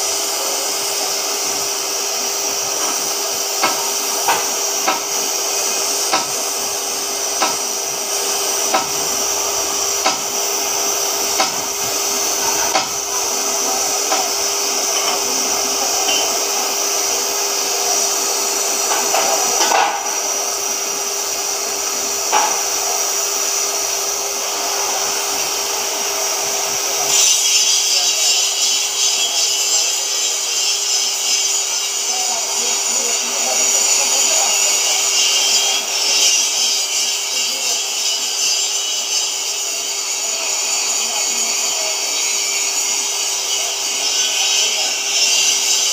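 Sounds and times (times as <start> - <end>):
cutting torch hissing: 0.0 - 45.9.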